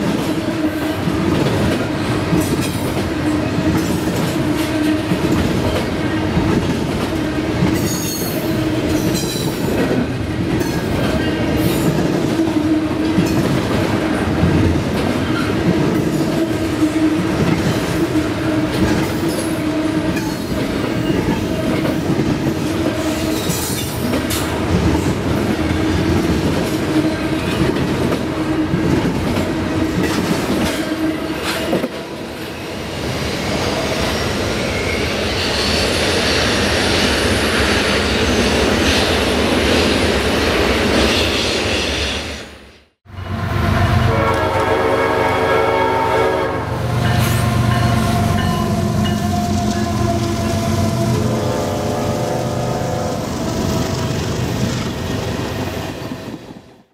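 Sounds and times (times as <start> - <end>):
freight train rolling past: 0.0 - 56.9.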